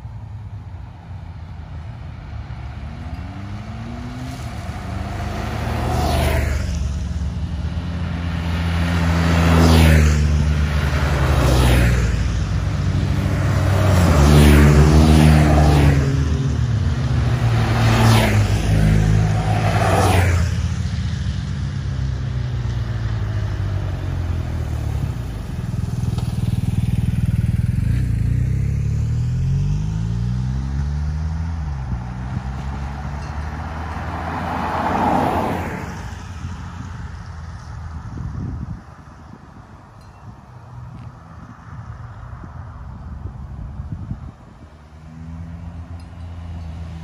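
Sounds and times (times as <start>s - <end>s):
motorcycles riding past: 0.0s - 39.5s, 40.6s - 47.0s.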